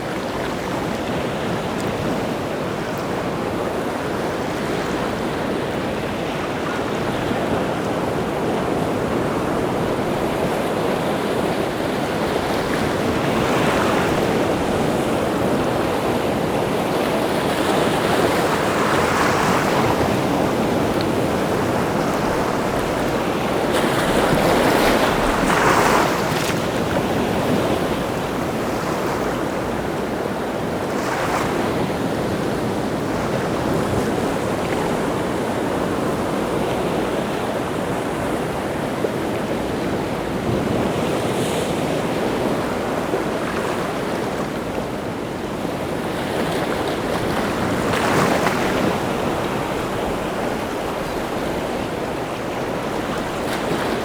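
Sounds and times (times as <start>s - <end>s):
waves breaking: 0.0s - 54.0s
wind: 0.0s - 54.0s.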